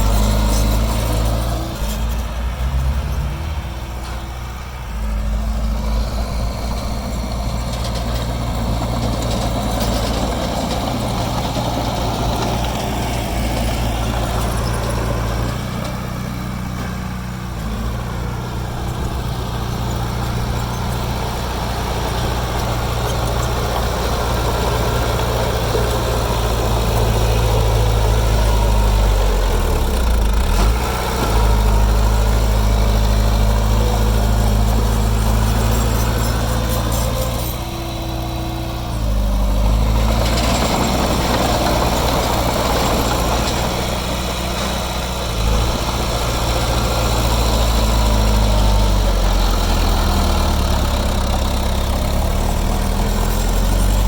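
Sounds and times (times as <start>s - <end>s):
heavy machinery diesel engine running: 0.0s - 54.0s.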